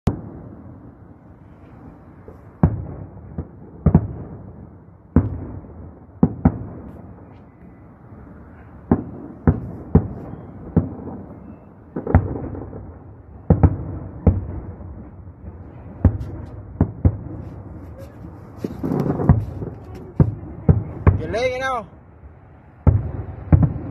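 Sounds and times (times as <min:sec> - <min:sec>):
fireworks bangs: 0:00.1 - 0:21.9, 0:22.8 - 0:23.9
steady low rumble: 0:00.1 - 0:23.9.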